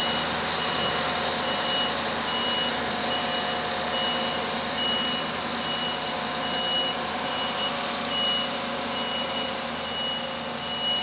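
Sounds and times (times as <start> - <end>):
combine harvester running: 0.0 - 11.0
reversing alarm beeping: 0.0 - 11.0.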